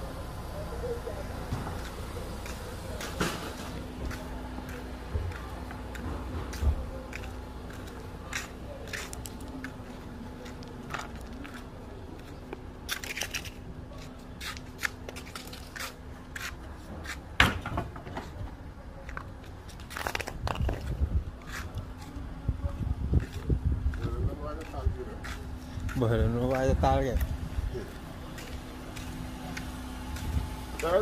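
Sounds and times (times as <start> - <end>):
footsteps on dirt road: 1.4 - 31.0.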